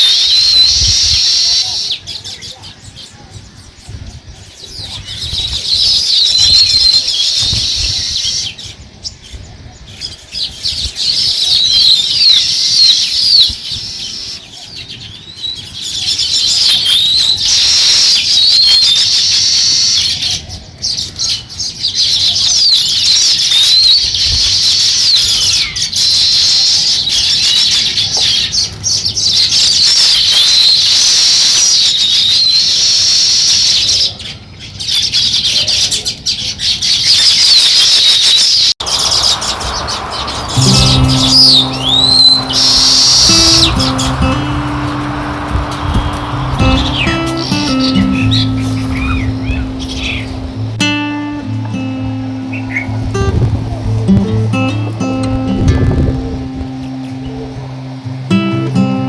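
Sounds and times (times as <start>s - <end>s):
songbirds chirping and chattering: 0.0s - 32.9s, 33.6s - 59.0s.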